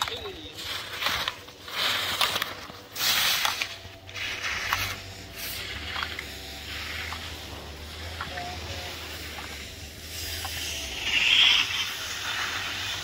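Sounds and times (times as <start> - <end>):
skis scraping on snow: 0.0 - 13.0.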